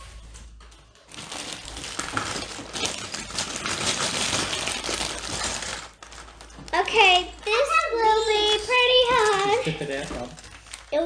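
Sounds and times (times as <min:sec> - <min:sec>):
plastic bag crinkling: 0:00.0 - 0:11.0
plastic pieces clicking and rattling: 0:00.1 - 0:11.0.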